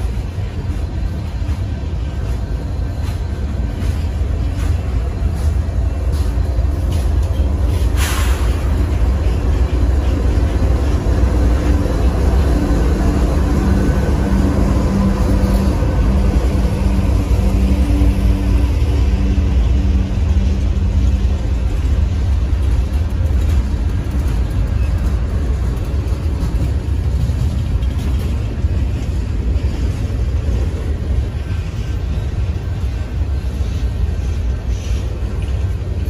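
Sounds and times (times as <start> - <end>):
diesel locomotive engine hum: 0.0 - 36.0
train wheels rumbling on rail: 0.0 - 36.0.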